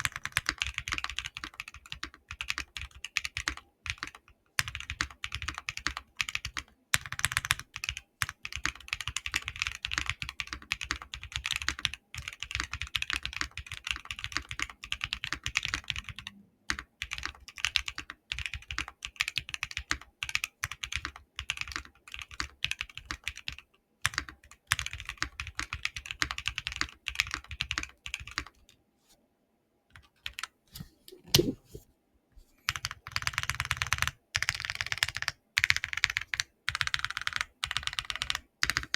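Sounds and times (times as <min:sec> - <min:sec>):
mechanical keyboard typing: 0:00.0 - 0:28.7, 0:30.0 - 0:30.5, 0:32.7 - 0:38.9.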